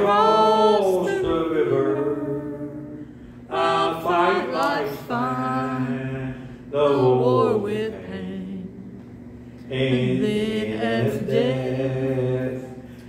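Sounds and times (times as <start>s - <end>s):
voices singing a gospel hymn: 0.0s - 13.0s.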